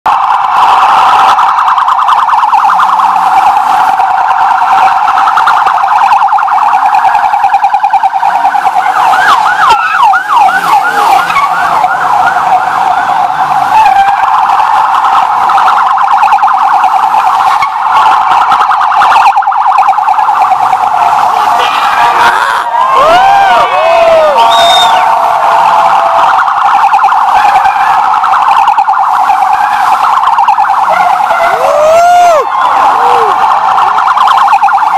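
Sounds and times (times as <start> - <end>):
police sirens wailing: 0.1 - 34.9
siren whoops: 0.1 - 34.9.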